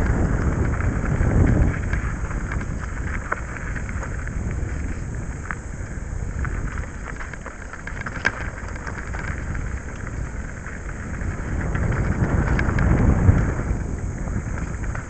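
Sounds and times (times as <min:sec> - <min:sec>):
small clicks and rattles: 0:00.0 - 0:15.0
tyres rolling over dirt: 0:00.0 - 0:15.0
wind buffeting microphone: 0:00.0 - 0:15.0.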